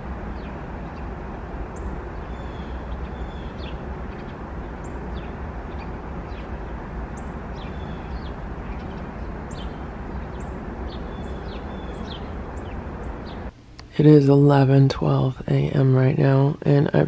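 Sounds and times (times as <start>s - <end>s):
small birds chirping: 0.0s - 14.4s
steady low rumble: 0.0s - 17.0s.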